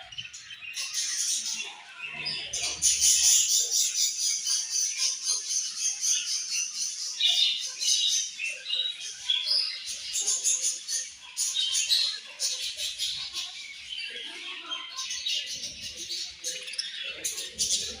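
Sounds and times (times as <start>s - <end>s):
budgerigars chirping and chattering: 0.0s - 18.0s.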